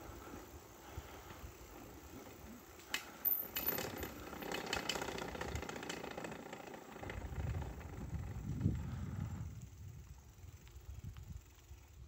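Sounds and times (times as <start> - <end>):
bicycle rattling and clicking: 0.8 - 12.0.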